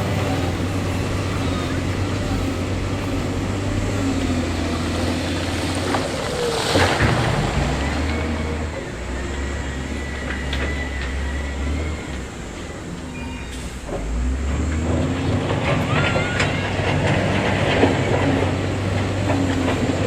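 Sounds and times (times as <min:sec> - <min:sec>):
construction machinery running: 0:00.0 - 0:20.0.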